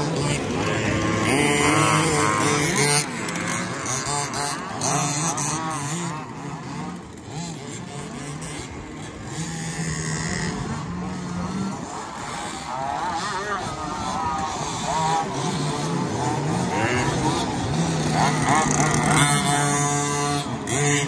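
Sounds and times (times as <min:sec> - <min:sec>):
remote control car motors whining: 0:00.0 - 0:21.0.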